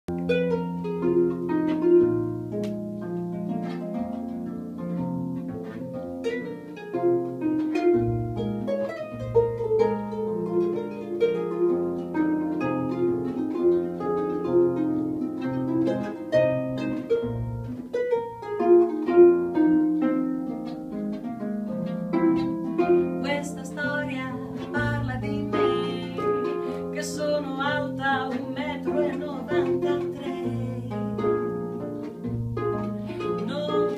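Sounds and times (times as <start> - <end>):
plucked string blues: 0.1 - 33.9.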